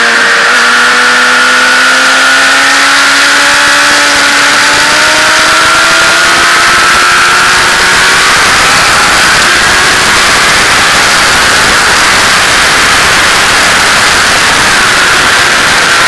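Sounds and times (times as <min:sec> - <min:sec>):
faint car engine: 0:00.0 - 0:16.0
wind rushing over microphone: 0:02.6 - 0:16.0.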